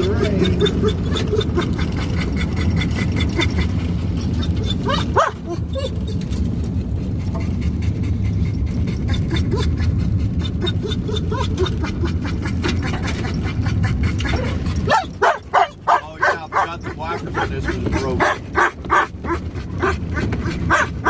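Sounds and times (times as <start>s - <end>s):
dog whining: 0.0s - 21.0s
vehicle driving rumble: 0.0s - 21.0s.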